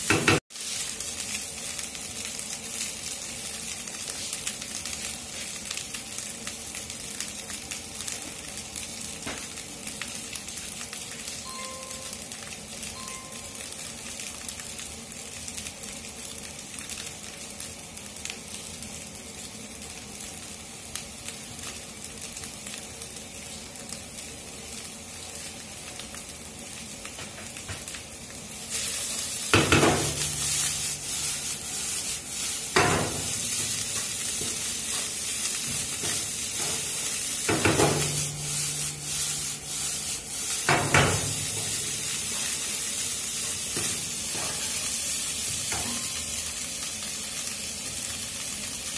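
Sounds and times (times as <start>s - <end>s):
rice sizzling in frying pan: 0.0s - 48.9s.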